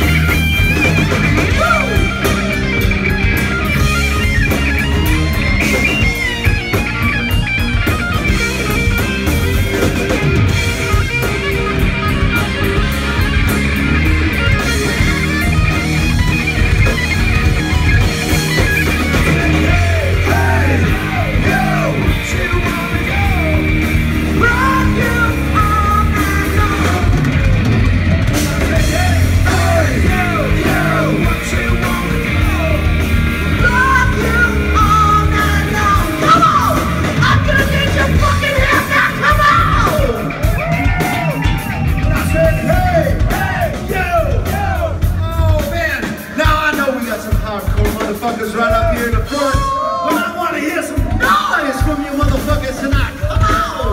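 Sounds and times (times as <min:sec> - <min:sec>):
bass: 0:00.0 - 0:53.9
drums: 0:00.0 - 0:53.9
electric guitars: 0:00.0 - 0:53.9.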